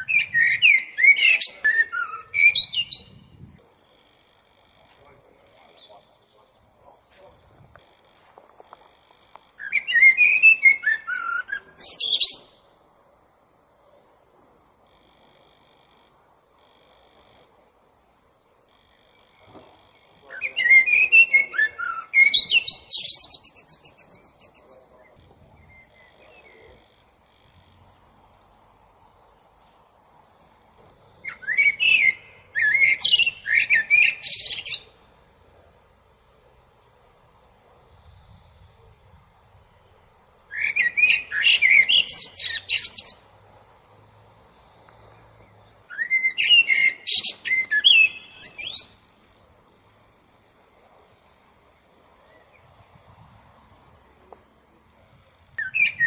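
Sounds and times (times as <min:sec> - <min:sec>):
blackbird singing: 0:00.0 - 0:07.8, 0:08.6 - 0:12.8, 0:18.2 - 0:28.7, 0:30.2 - 0:43.4, 0:44.3 - 0:52.9, 0:53.9 - 0:56.0.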